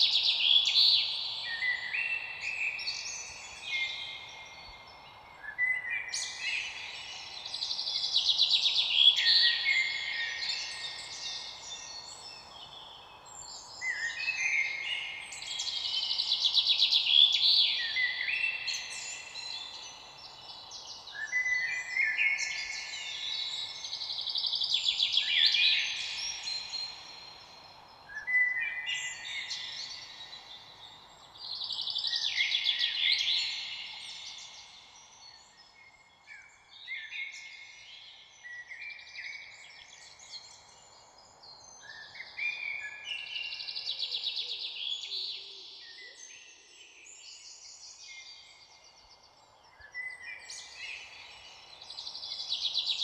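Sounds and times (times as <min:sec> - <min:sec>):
low background hiss: 0:00.0 - 0:53.0
songbirds chirping and trilling: 0:00.0 - 0:53.0.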